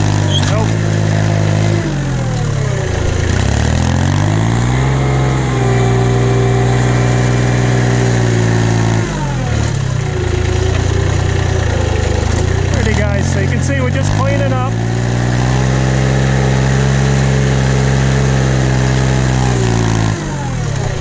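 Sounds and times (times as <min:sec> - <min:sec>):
tractor engine revving: 0:00.0 - 0:21.0.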